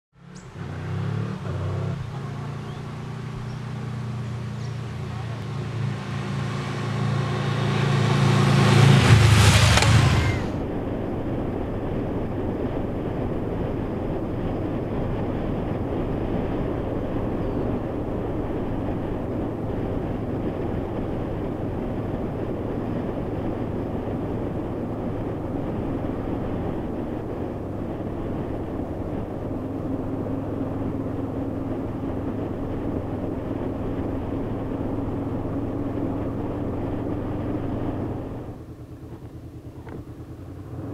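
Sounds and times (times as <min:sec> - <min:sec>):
motorcycle engine hum: 0:00.1 - 0:40.9
motorcycle passing by: 0:00.2 - 0:40.9
wind noise: 0:00.4 - 0:38.7.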